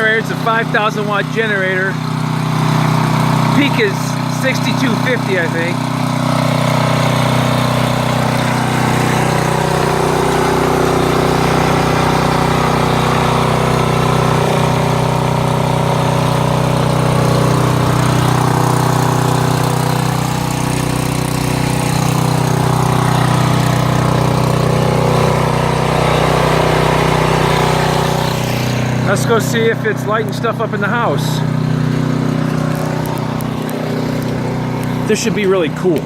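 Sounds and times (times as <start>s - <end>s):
portable generator engine running: 0.0s - 36.0s.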